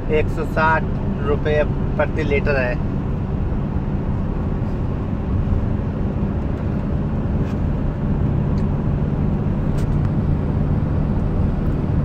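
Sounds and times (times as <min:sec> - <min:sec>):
truck engine hum: 0:00.0 - 0:12.0
tyre and road noise: 0:00.0 - 0:12.0.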